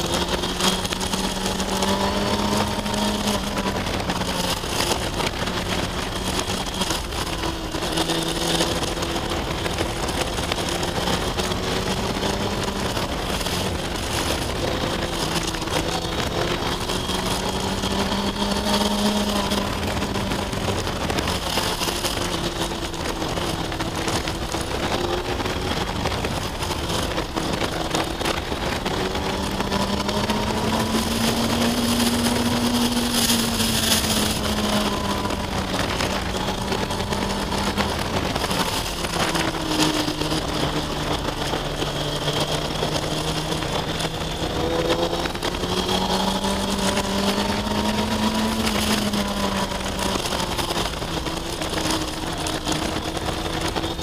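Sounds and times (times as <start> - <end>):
motorcycle engine pulling: 0.0 - 54.0
rushing wind noise: 0.0 - 54.0.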